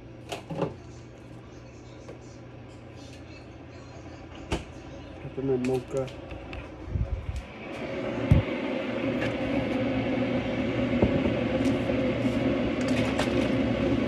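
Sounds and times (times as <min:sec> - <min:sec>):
kitchen appliance humming: 0:00.0 - 0:14.0.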